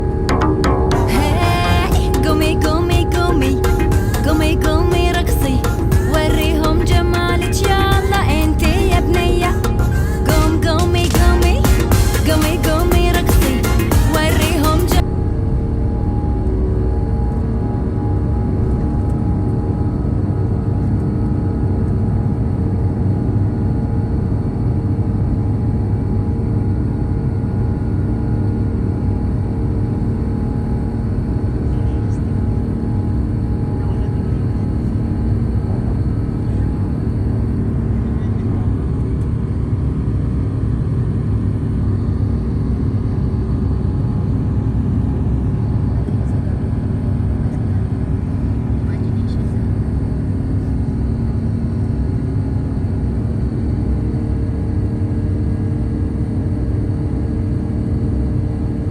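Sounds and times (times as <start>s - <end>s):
aircraft engines droning: 0.0s - 58.9s.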